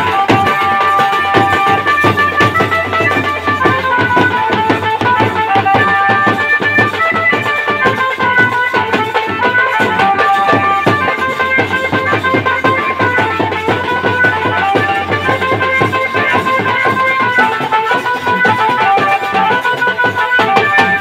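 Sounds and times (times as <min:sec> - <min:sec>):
drums struck with sticks: 0:00.0 - 0:21.0
harmonium melody: 0:00.0 - 0:21.0.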